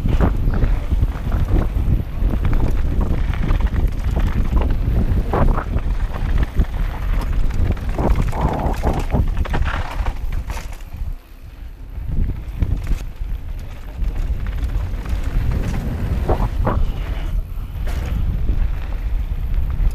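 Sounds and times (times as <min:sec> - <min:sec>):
bike tyres crunching on gravel: 0:00.0 - 0:19.9
wind buffeting microphone: 0:00.0 - 0:19.9.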